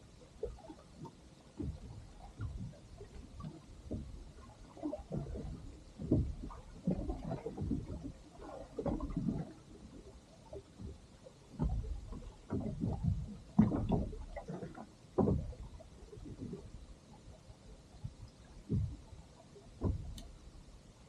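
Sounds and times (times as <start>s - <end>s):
water lapping against boat: 0.0s - 21.0s.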